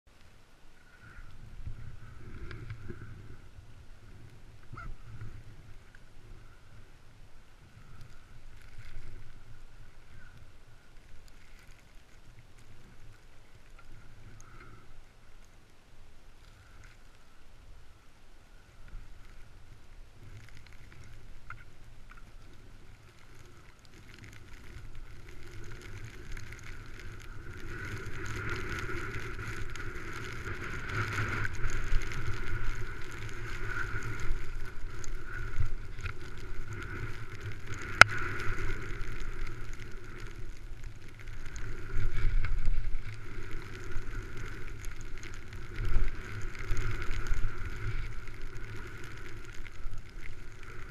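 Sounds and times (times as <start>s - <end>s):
skis sliding over snow: 0.1s - 50.9s
wind rumbling on microphone: 0.1s - 50.9s.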